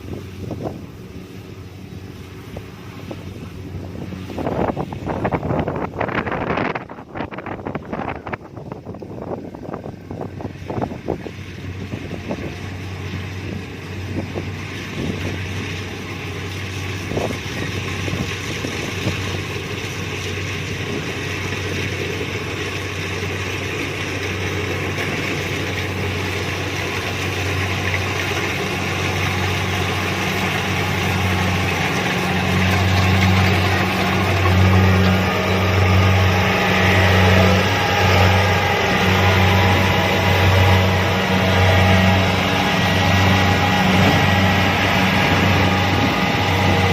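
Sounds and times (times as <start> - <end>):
combine harvester engine drone: 0.0 - 46.9.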